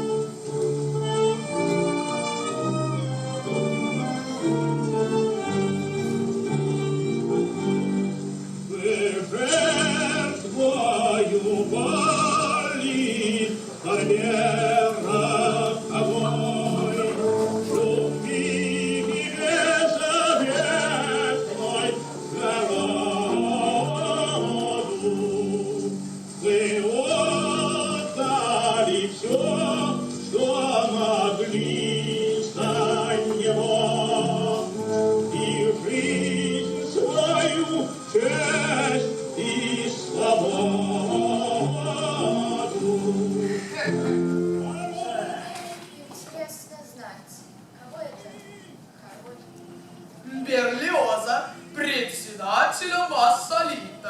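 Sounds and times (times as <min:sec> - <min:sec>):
sustained accompaniment: 0:00.0 - 0:45.9
operatic singing: 0:00.0 - 0:46.0.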